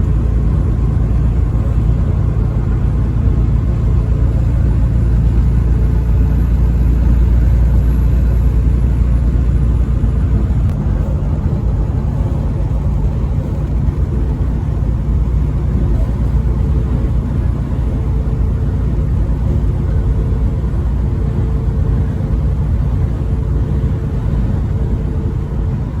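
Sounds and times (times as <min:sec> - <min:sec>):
vehicle road and engine rumble: 0:00.0 - 0:26.0.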